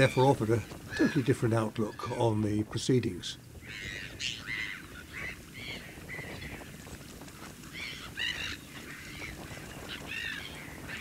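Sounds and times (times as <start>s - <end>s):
waterbirds calling: 0.0s - 11.0s
wind rumble on microphone: 0.0s - 11.0s.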